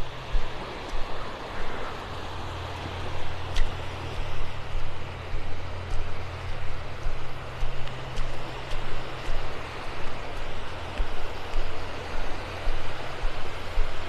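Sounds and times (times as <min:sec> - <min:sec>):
surf washing over shallows: 0:00.0 - 0:14.0
wind rumble on microphone: 0:00.0 - 0:14.0.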